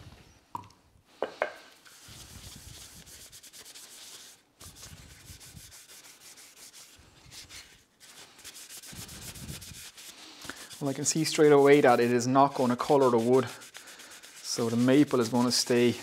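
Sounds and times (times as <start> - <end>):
cloth wiping wood: 1.9 - 16.0.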